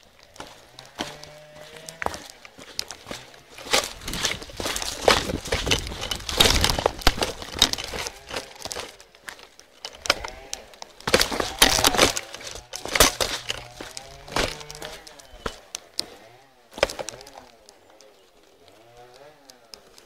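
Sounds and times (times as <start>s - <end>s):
footsteps crunching on stony ground: 0.0s - 18.0s, 18.6s - 19.6s.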